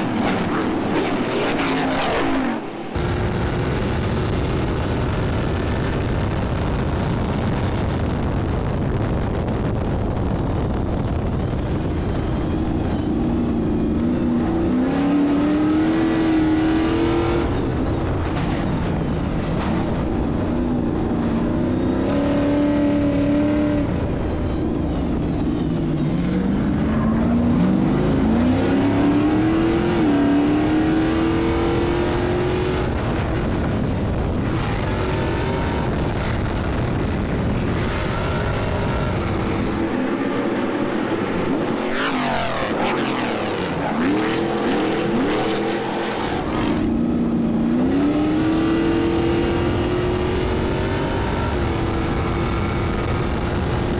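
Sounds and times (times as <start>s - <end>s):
race engine accelerating: 9.0s - 53.9s.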